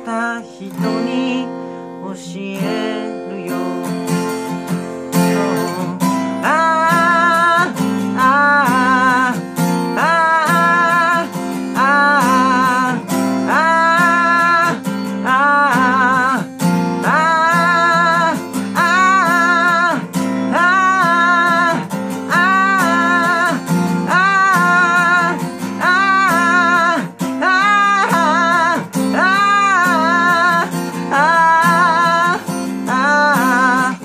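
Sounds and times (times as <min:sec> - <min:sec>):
acoustic guitar strumming: 0:00.0 - 0:34.0
person singing with vibrato: 0:00.0 - 0:34.0.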